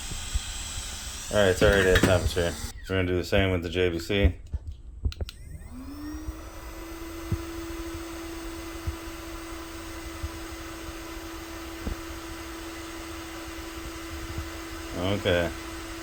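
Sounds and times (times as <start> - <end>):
blower humming: 0.0 - 3.0, 5.1 - 16.0.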